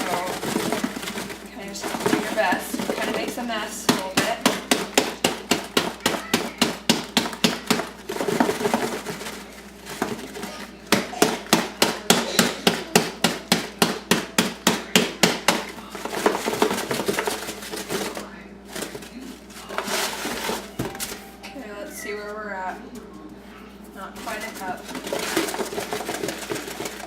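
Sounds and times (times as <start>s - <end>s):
rapid tapping on a container: 0.0s - 21.1s, 24.0s - 27.0s.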